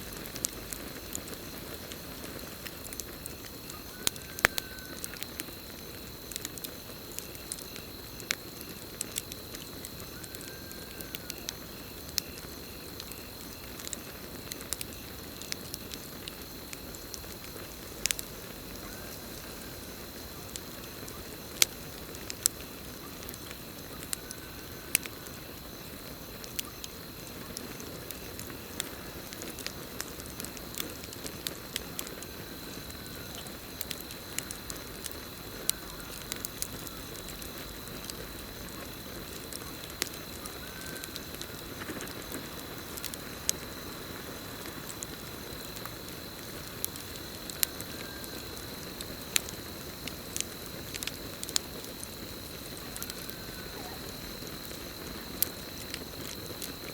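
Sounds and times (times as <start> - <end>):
campfire crackling and popping: 0.0 - 56.9
crickets trilling: 0.0 - 56.9.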